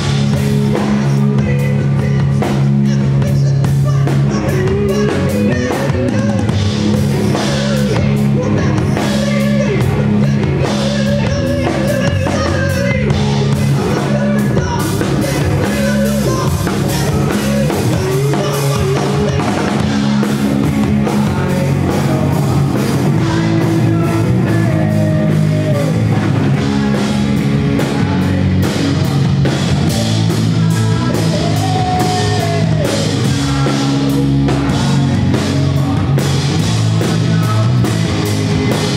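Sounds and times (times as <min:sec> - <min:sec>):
bass guitar: 0:00.0 - 0:38.9
drum kit: 0:00.0 - 0:38.9
electric guitar: 0:00.0 - 0:38.9
person singing: 0:00.0 - 0:38.9.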